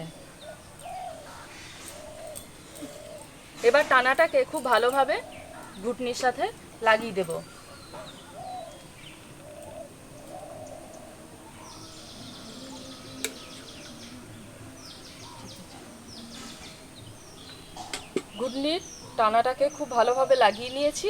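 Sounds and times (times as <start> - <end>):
birds chirping: 0.0 - 21.0
outdoor background noise: 0.0 - 21.0.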